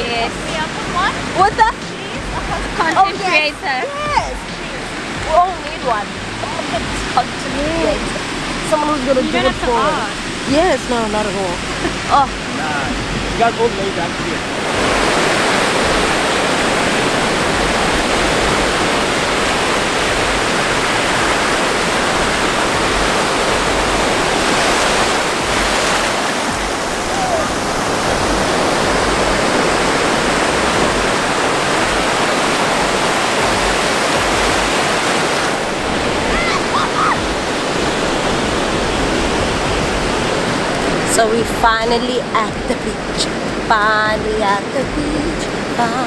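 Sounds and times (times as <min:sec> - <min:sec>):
ocean surf breaking on beach: 0:00.0 - 0:46.0.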